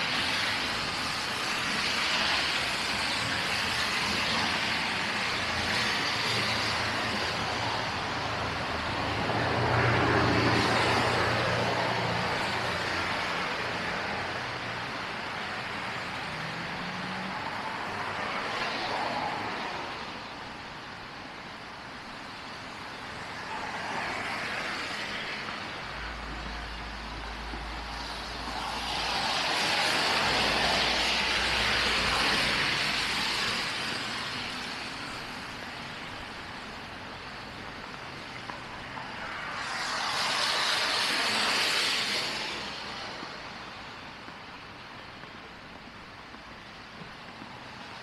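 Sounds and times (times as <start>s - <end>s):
background traffic: 0.0s - 48.0s
vehicle tyres hissing on snow: 0.0s - 48.0s.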